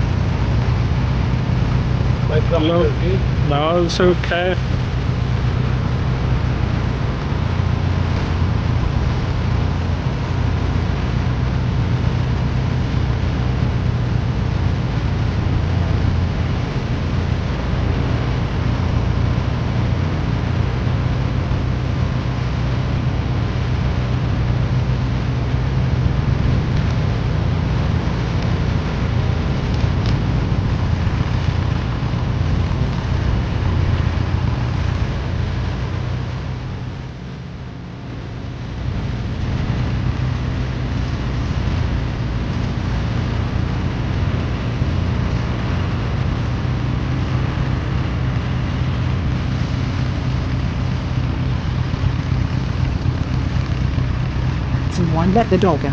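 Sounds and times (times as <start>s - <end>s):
steady rushing noise: 0.0s - 55.9s
tractor engine running: 0.0s - 55.9s.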